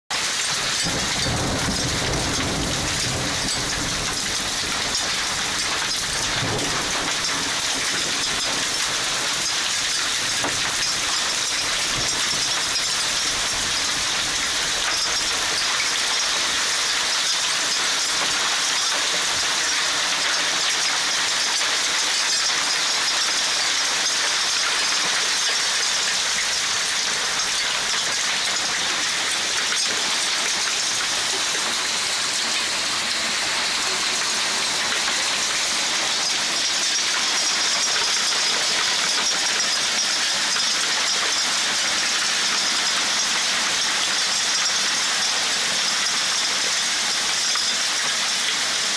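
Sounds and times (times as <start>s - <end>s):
heavy rain: 0.1s - 48.9s
hail ticking: 0.2s - 48.9s.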